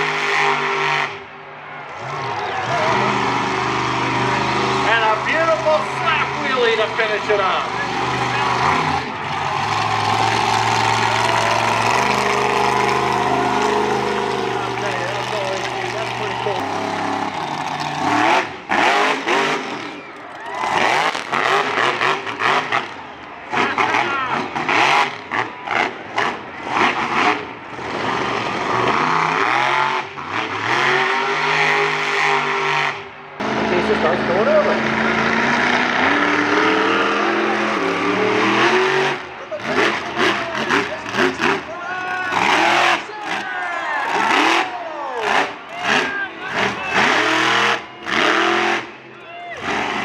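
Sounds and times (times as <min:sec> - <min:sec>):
monster truck engine running: 0:00.0 - 0:50.0.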